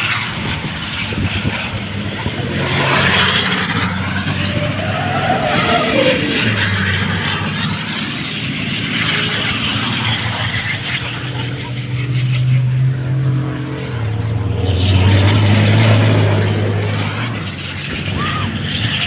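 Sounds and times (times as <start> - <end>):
race truck engine droning: 0.0 - 19.0.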